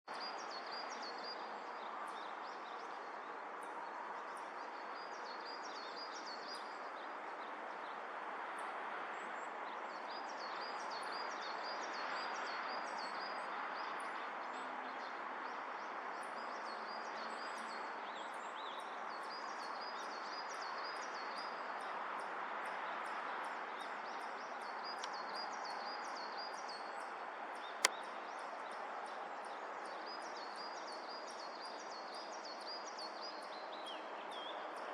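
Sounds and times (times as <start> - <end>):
outdoor background noise: 0.1 - 34.9.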